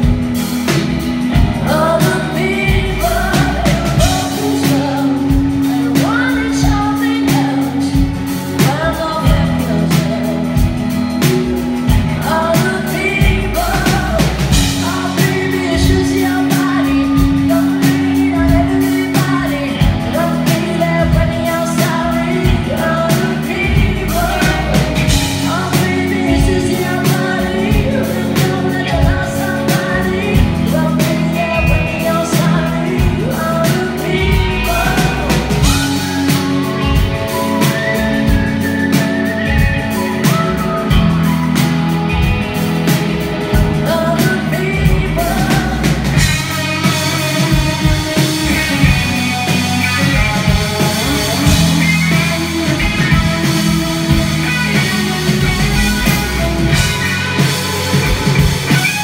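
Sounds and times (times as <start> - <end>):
drums steady beat: 0.0 - 59.0
person singing: 0.0 - 59.0
strummed guitar: 0.0 - 59.0.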